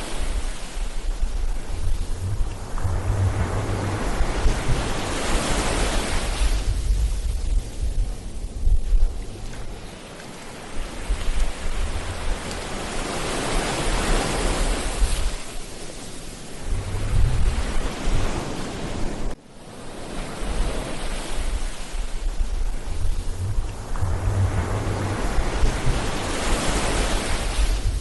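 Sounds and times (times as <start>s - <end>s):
wind buffeting microphone: 0.0s - 19.4s, 20.1s - 28.0s
ocean surf breaking on beach: 0.0s - 28.0s.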